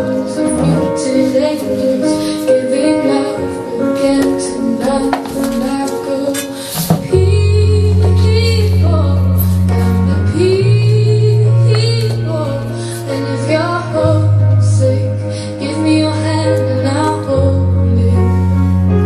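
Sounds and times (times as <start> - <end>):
woman singing slow melody: 0.0 - 18.4.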